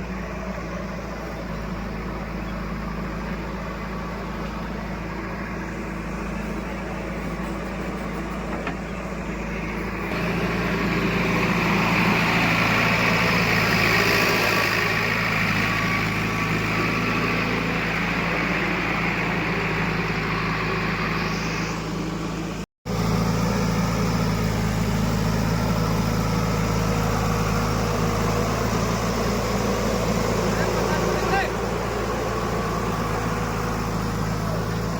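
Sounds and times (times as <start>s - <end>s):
heavy diesel engine running: 0.0s - 34.9s.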